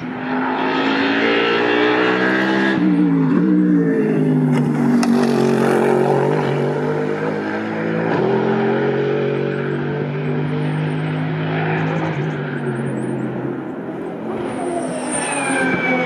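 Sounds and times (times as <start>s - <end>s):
racing car engine at speed: 0.0s - 16.0s.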